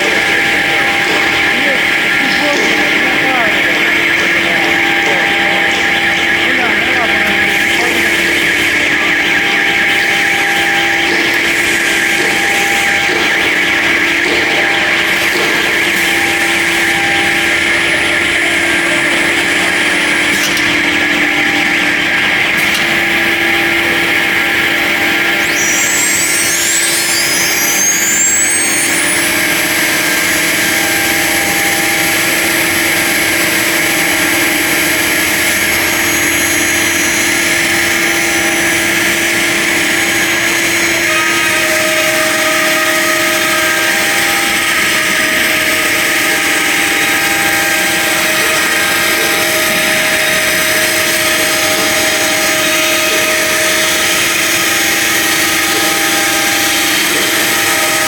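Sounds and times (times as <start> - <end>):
mid-pitched motor tones: 0.0 - 58.0
router spindle high whine: 0.0 - 58.0.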